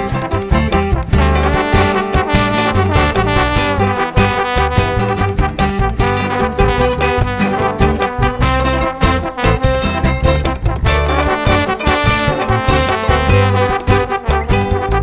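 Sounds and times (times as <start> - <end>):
upbeat music with brass horns: 0.0 - 15.0.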